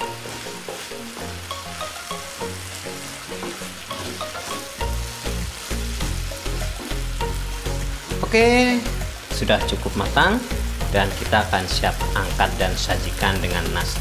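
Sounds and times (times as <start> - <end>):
food sizzling in oil in a frying pan: 0.0 - 14.0.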